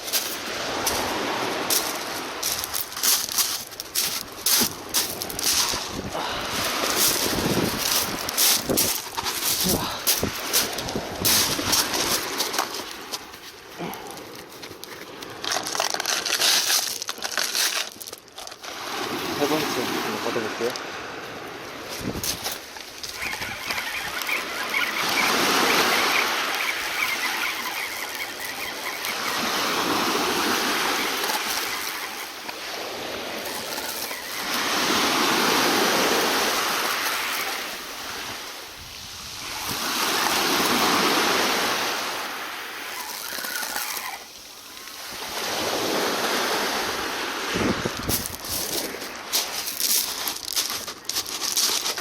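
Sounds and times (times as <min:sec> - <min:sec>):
sea waves breaking: 0:00.0 - 0:52.0.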